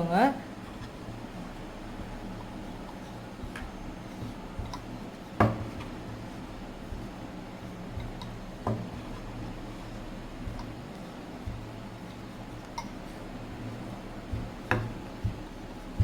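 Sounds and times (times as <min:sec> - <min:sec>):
dough being tapped flat: 0:00.6 - 0:16.0.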